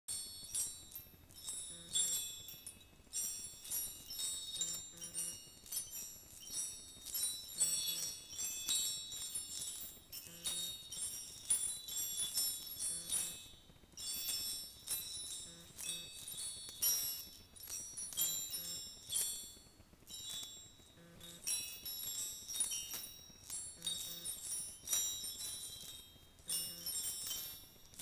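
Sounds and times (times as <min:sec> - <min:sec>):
small metal bell tinkling: 0:00.0 - 0:28.0.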